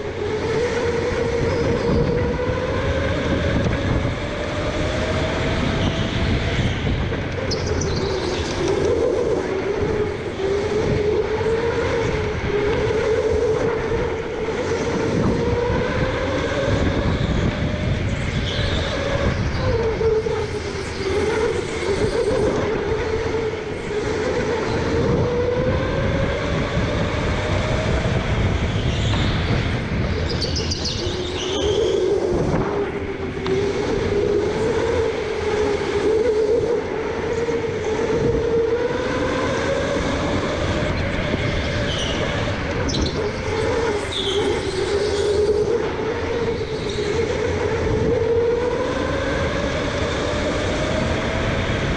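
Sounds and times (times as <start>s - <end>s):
tyres and wind rumble: 0.0s - 51.9s.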